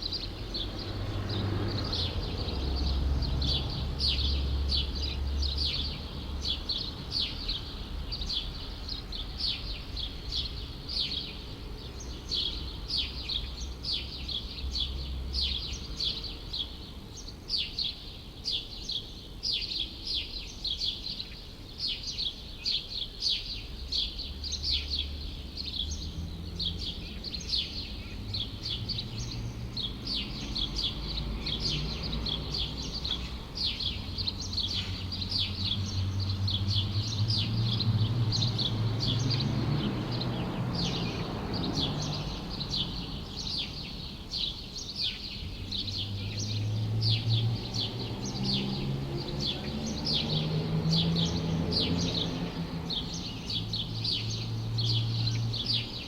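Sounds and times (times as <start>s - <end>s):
low city rumble: 0.0s - 56.0s
small birds chirping: 0.0s - 56.0s.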